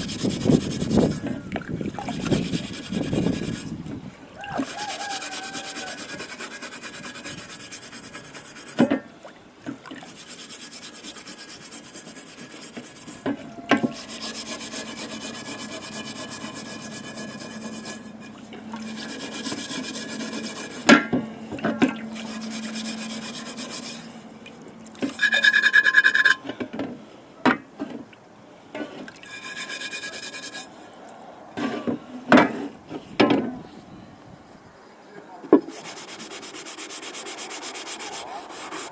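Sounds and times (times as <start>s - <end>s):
scrubbing rust off cast iron: 0.0s - 9.1s, 9.7s - 26.5s, 28.8s - 30.7s, 35.6s - 38.9s.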